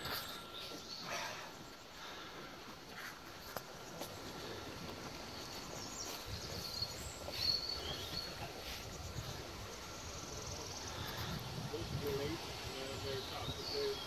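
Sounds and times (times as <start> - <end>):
outdoor hiss: 0.0 - 14.0
songbird chirping: 0.0 - 14.0.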